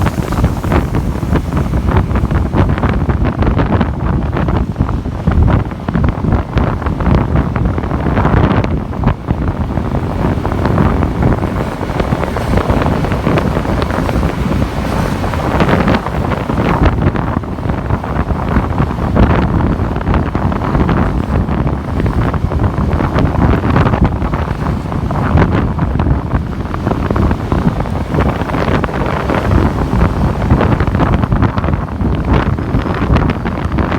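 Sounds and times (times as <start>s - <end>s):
vehicle noise: 0.0s - 33.9s
wind buffeting microphone: 0.0s - 33.9s.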